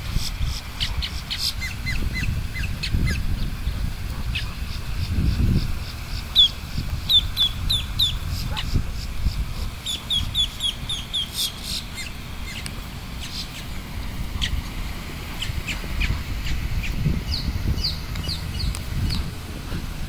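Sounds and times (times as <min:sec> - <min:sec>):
steady low rumble: 0:00.0 - 0:20.0
ducklings peeping: 0:00.1 - 0:19.9.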